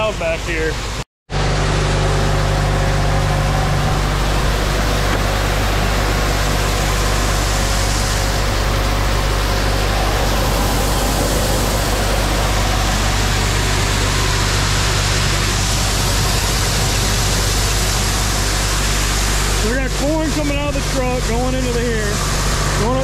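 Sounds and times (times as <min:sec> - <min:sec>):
grain auger machinery running: 0:01.4 - 0:23.0.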